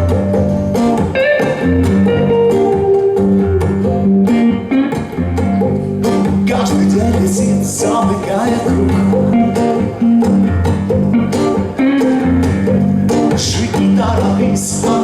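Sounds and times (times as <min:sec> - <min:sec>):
pop song instrumental: 0:00.0 - 0:15.0.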